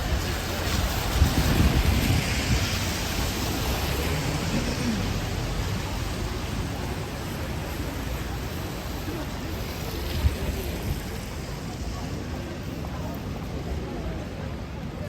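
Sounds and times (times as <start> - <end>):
rain hiss on street: 0.0 - 15.0.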